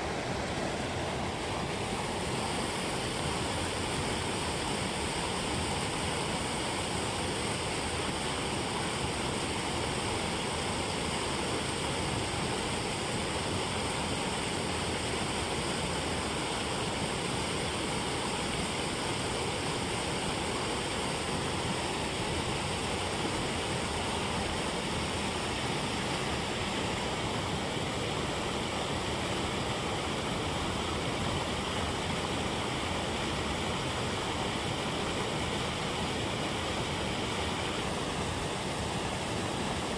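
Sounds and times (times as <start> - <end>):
water rushing over weir: 0.0 - 39.9.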